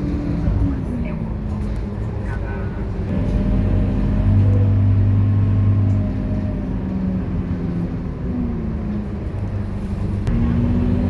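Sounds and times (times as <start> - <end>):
bus diesel engine droning: 0.0 - 11.0.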